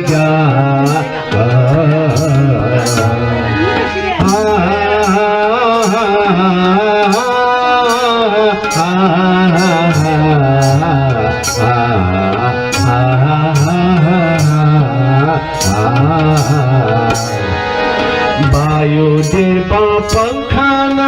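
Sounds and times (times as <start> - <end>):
sliding melodic line: 0.0 - 21.0.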